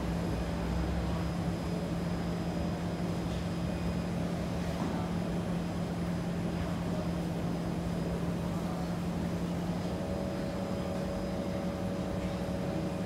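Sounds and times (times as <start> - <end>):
train car mechanical hum: 0.0 - 13.0.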